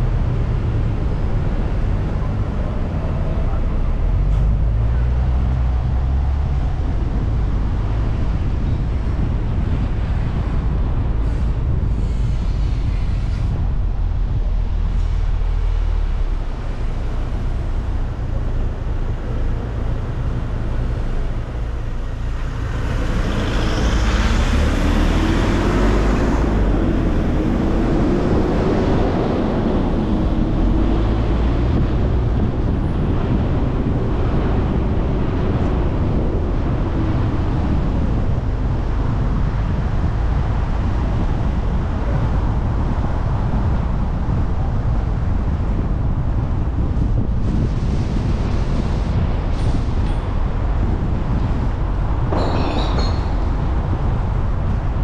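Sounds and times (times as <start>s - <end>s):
road and engine rumble: 0.0s - 55.0s
rushing noise: 0.0s - 55.0s.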